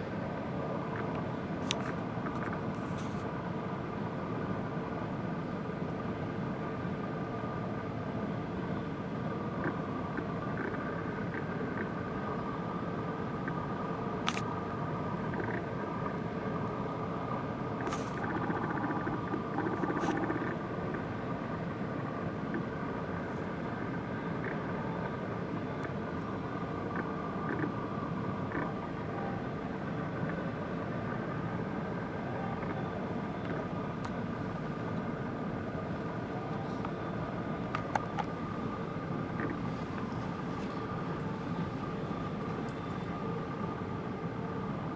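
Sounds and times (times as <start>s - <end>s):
outdoor noise: 0.0s - 44.9s.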